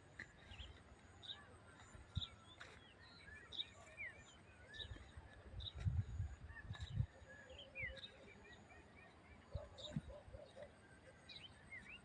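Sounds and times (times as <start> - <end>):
birds chirping and whistling: 0.2 - 12.0.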